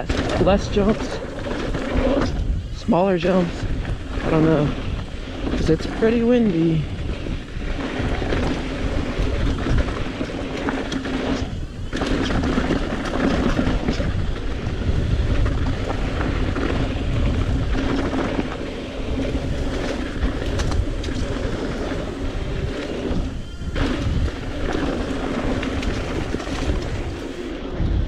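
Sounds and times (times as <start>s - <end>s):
wind buffeting microphone: 0.0s - 28.0s
bike knocks and rattles: 3.6s - 27.4s.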